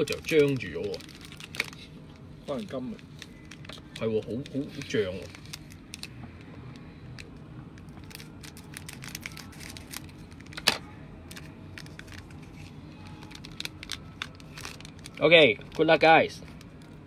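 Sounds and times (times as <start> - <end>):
foil crinkling: 0.0 - 1.9, 2.5 - 10.6, 11.3 - 17.0.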